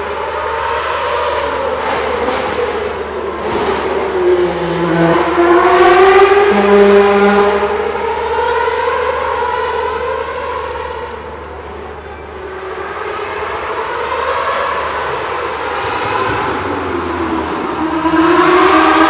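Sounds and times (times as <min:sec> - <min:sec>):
racing cars passing at high revs: 0:00.0 - 0:19.0.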